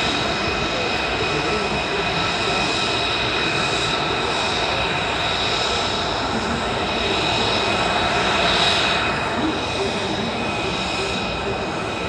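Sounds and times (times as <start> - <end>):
helicopter flying close by: 0.0 - 11.8.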